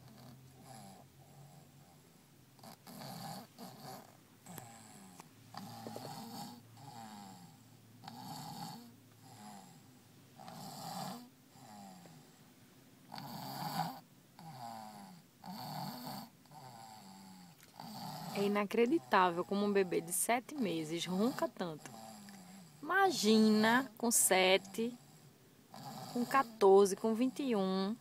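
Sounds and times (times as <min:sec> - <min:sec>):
baby snoring: 0:00.0 - 0:02.0, 0:02.6 - 0:12.4, 0:13.0 - 0:26.8.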